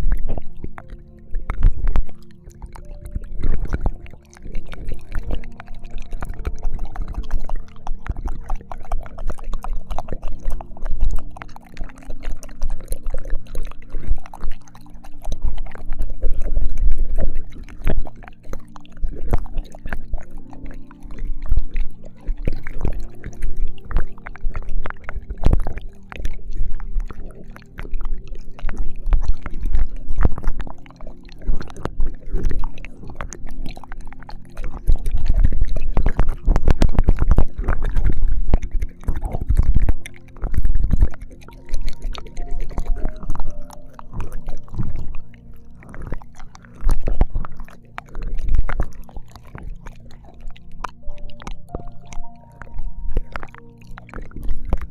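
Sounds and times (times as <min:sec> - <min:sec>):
faint sustained background tones: 0:00.0 - 0:34.9, 0:39.7 - 0:54.6
wet mouth licks and smacks: 0:00.0 - 0:54.9.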